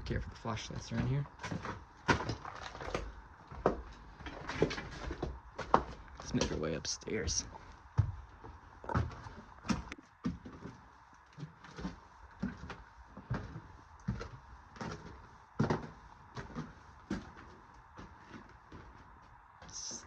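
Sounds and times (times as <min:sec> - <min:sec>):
footsteps climbing stairs: 0:00.0 - 0:20.0.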